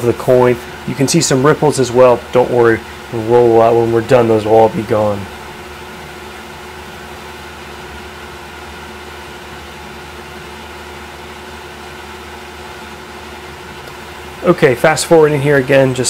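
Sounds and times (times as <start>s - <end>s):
milling machine spindle hum: 0.0s - 16.0s.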